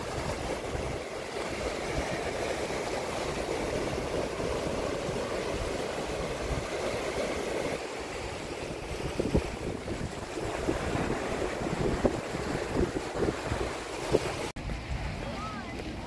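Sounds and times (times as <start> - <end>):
ocean surf over rocks: 0.0 - 16.0
wind buffeting microphone: 0.0 - 16.0.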